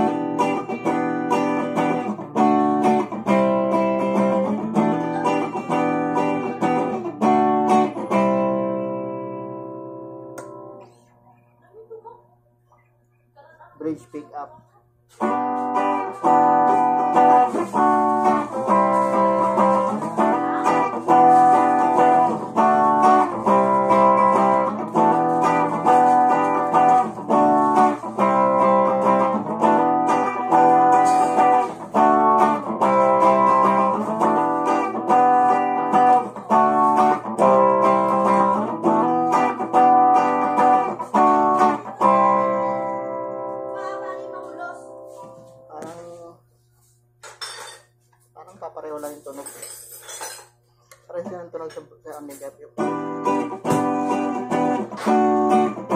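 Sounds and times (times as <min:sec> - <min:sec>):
clean electric guitar strumming chords: 0:00.0 - 0:11.0, 0:15.2 - 0:46.5, 0:51.1 - 0:55.9
low steady amp hum: 0:00.0 - 0:55.9.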